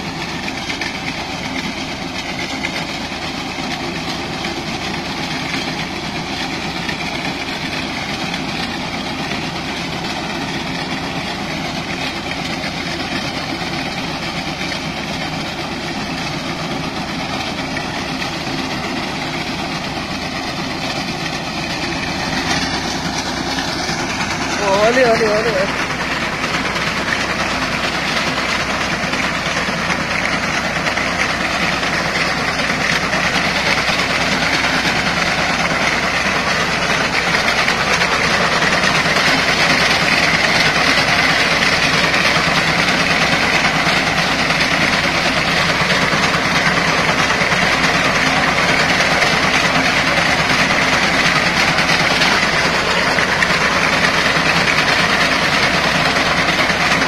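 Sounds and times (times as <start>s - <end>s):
reaper mechanical clatter: 0.0s - 57.0s
tractor engine running: 0.0s - 57.0s.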